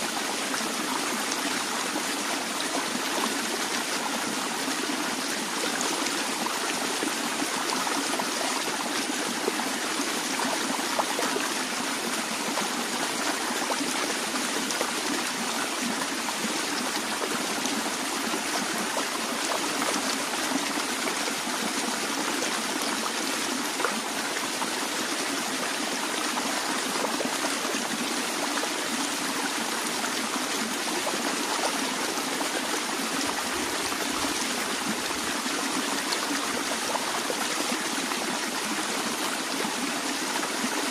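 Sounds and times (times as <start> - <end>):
small stream flowing: 0.0 - 40.9.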